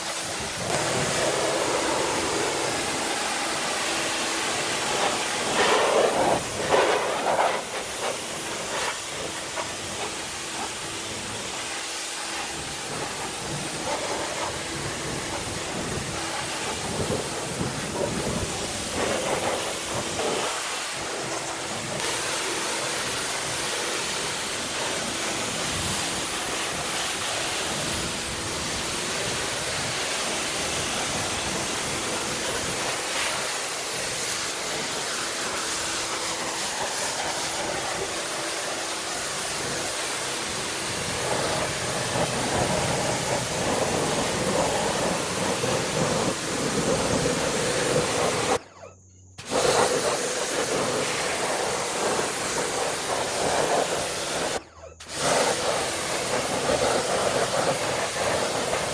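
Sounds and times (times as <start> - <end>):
pressure washer spraying water: 0.0 - 48.6, 49.4 - 58.9.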